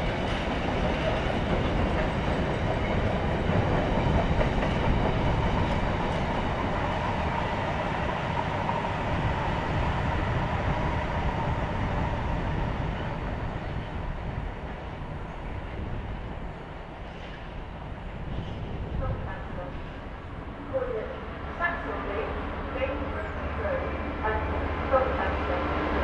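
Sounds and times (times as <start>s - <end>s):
train wheels rumbling and clattering: 0.0s - 26.0s.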